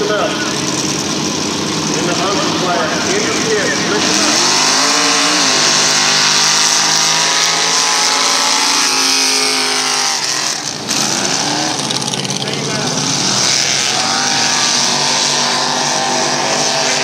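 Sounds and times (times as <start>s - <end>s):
truck engines revving high: 0.0s - 17.0s.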